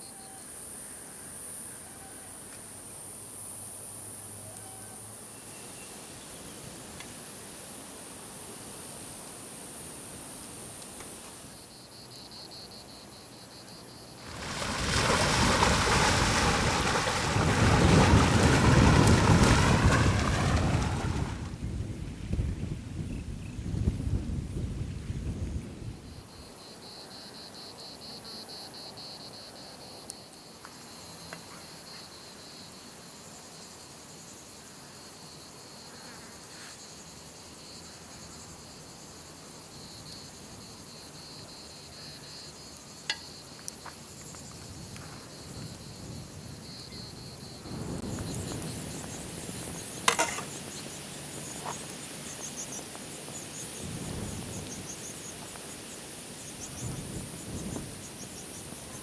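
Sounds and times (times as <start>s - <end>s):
high insect hiss: 0.0s - 15.2s, 25.9s - 59.0s
crickets chirping: 0.0s - 20.9s, 25.8s - 59.0s.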